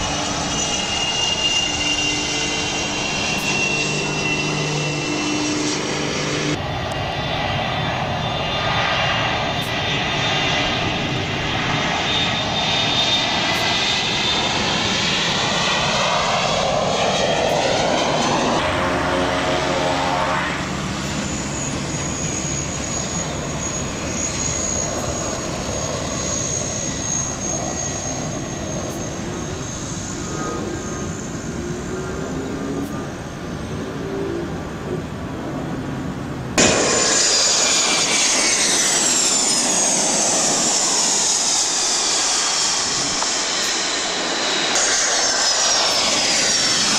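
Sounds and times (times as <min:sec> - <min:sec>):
high-pitched turbine whistle: 0:00.0 - 0:34.6, 0:36.6 - 0:46.9
jet passing: 0:00.0 - 0:46.9
turboprop engine running: 0:00.0 - 0:46.9.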